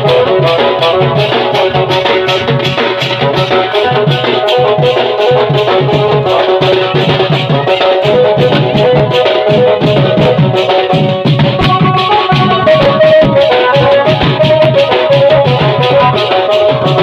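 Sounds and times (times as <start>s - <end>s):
barrel drums beaten fast: 0.0s - 17.0s.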